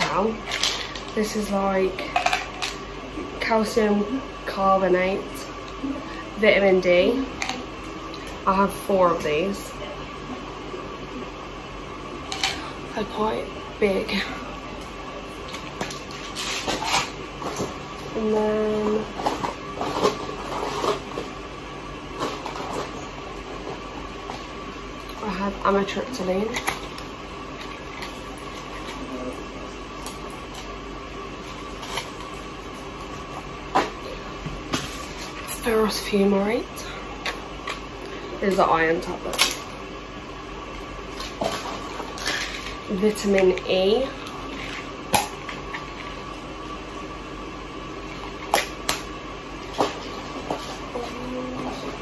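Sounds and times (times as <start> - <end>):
room hum with faint high tone: 0.0 - 52.0.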